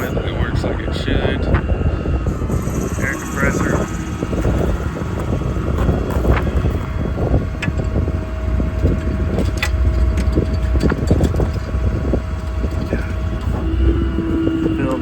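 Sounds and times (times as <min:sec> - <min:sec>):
diesel engine rumble: 0:00.0 - 0:15.0
faint hydraulic whine: 0:00.0 - 0:15.0.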